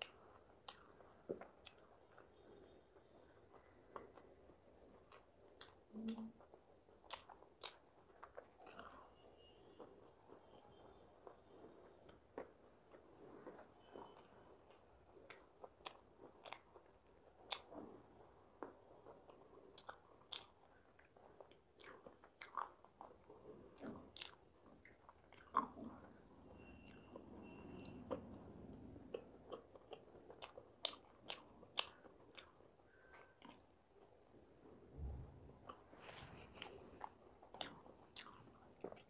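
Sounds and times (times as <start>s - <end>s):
person chewing: 0.0s - 2.7s, 3.5s - 34.2s, 35.0s - 39.0s.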